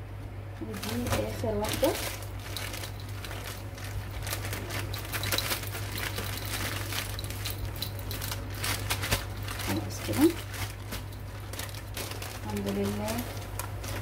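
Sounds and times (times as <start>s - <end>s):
plastic bag crinkling: 0.6s - 14.0s.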